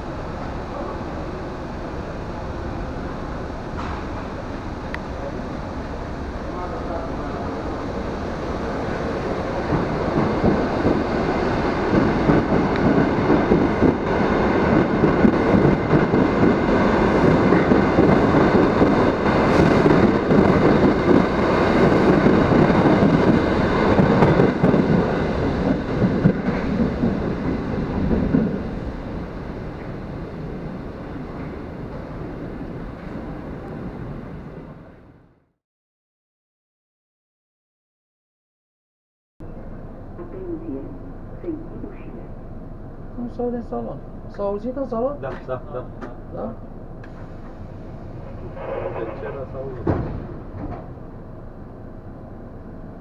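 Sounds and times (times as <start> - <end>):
train wheels rumbling on rail: 0.0 - 35.2, 39.4 - 53.0.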